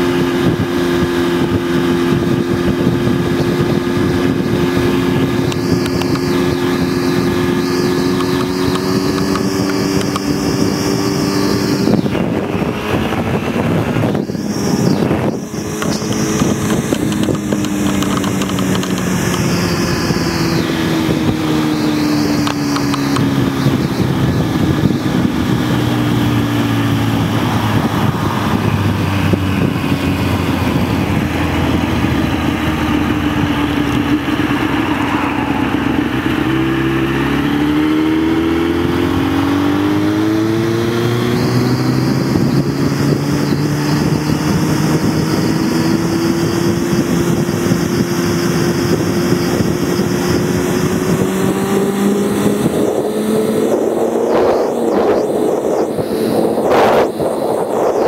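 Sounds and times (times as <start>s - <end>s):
motorcycle engine at speed: 0.0s - 58.0s
wind rush: 0.0s - 58.0s.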